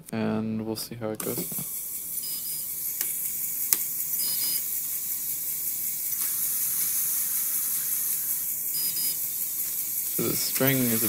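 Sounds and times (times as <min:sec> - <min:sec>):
motor whirring: 0:01.2 - 0:11.0.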